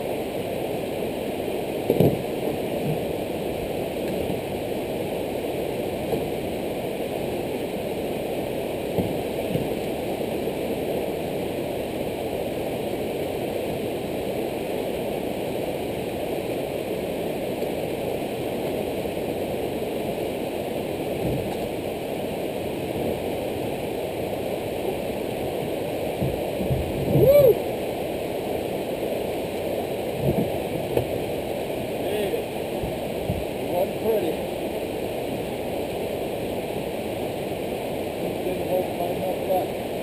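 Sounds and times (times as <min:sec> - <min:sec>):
whitewater rapids rushing: 0:00.0 - 0:40.0.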